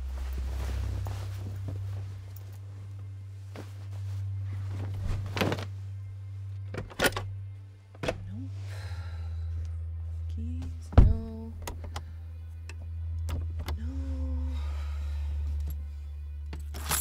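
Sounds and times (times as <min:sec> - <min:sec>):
steady low drone: 0:00.0 - 0:17.0.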